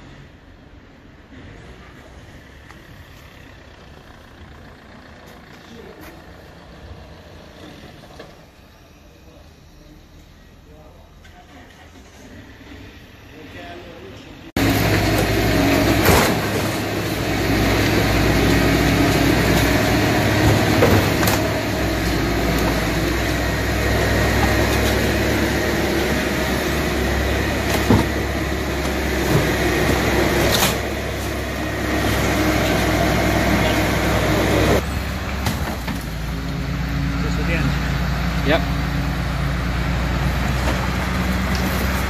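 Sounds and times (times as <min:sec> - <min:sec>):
crane engine running: 0:00.1 - 0:13.6, 0:14.2 - 0:42.0.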